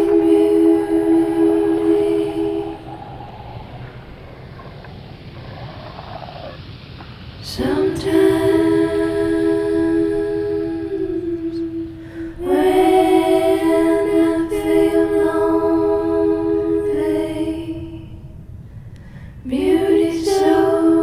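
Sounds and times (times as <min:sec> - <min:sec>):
singing voices holding long notes: 0:00.0 - 0:06.7, 0:07.3 - 0:18.6, 0:19.4 - 0:21.0.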